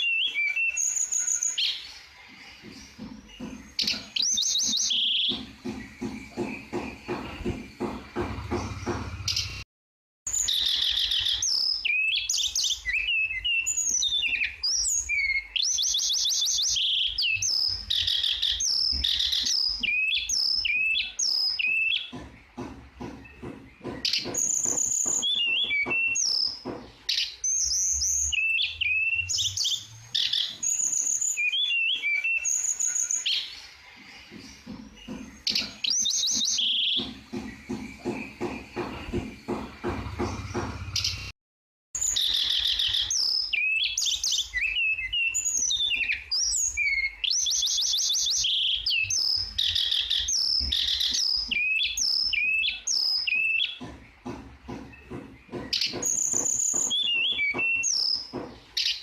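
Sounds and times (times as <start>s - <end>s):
songbird whistles and trills: 0.0s - 9.6s, 10.3s - 33.8s, 34.5s - 41.3s, 42.0s - 59.0s.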